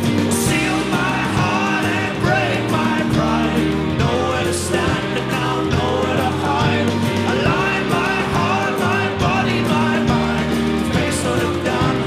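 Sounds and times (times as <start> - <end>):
drums struck hard: 0.0 - 12.0
people singing: 0.0 - 12.0
strummed guitars and bass: 0.0 - 12.0.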